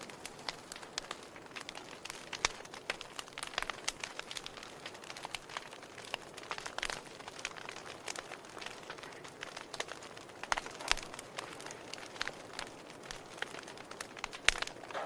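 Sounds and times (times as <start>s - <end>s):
steady fire hiss: 0.0s - 15.0s
wood fire crackling and popping: 0.0s - 15.0s.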